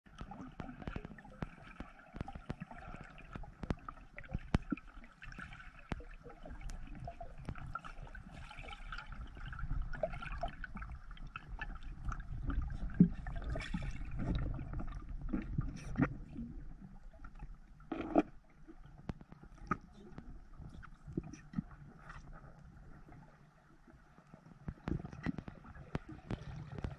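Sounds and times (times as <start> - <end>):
underwater clicks and crackles: 0.0 - 26.9
deep underwater rumble: 0.1 - 26.9
underwater rush of water: 0.1 - 26.9.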